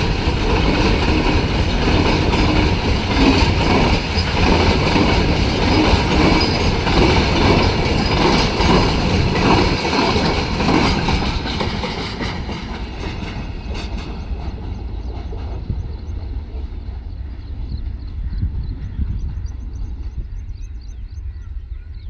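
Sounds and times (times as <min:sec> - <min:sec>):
train wheels clattering on rails: 0:00.0 - 0:20.8.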